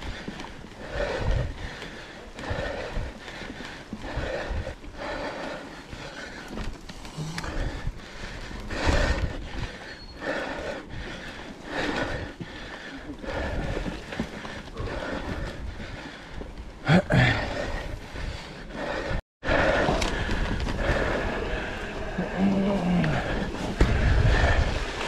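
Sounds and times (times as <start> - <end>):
bike rattling over bumps: 0.0 - 22.3.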